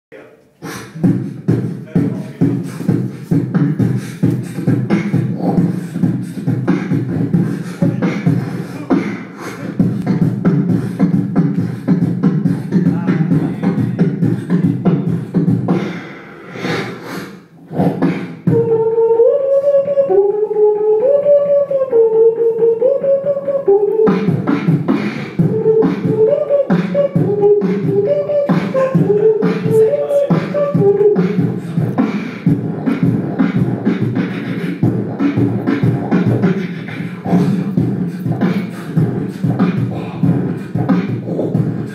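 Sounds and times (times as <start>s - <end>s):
pitched vocal melody: 0.1s - 41.9s
man beatboxing: 0.2s - 41.9s.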